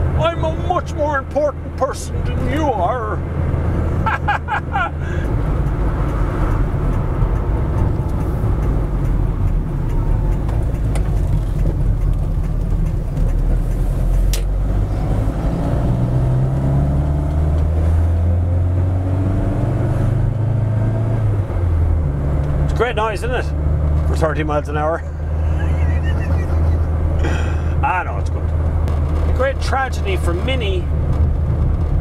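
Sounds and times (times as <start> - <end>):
car engine drone: 0.0 - 32.0.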